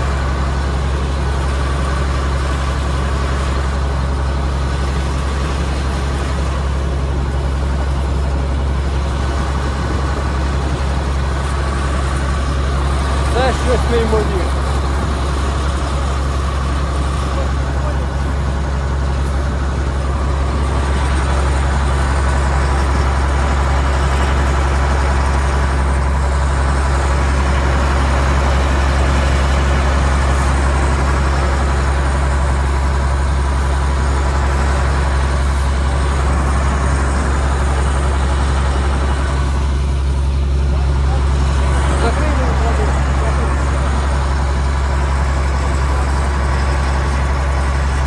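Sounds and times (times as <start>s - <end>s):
combine harvester droning: 0.0s - 48.0s.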